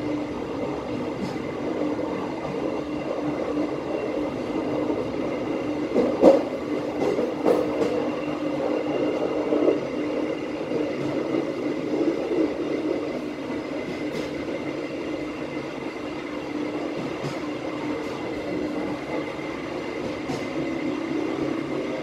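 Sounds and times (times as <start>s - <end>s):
train running slowly: 0.0s - 22.0s.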